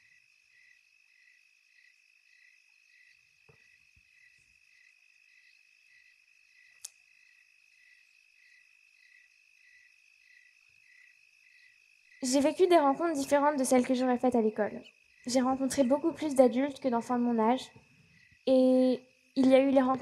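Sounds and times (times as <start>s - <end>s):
faint high whine with pulse: 0.0s - 20.0s.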